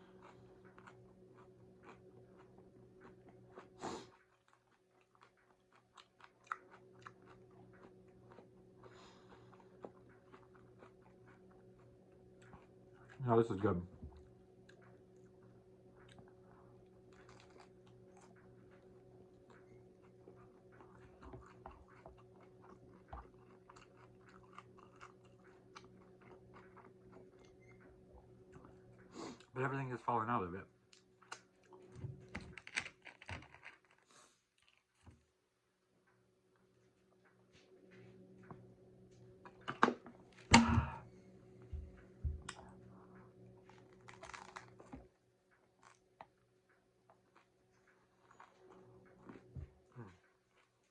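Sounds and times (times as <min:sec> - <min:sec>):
chewing crunchy food: 0:00.0 - 0:29.6, 0:30.9 - 0:35.2, 0:41.6 - 0:50.9
faint steady hum: 0:00.0 - 0:50.9.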